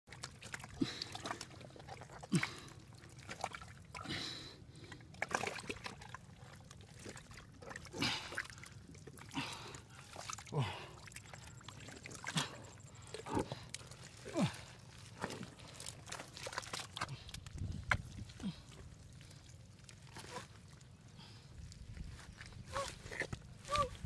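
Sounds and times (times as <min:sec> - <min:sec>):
mud squelching and splashing: 0:00.1 - 0:24.0.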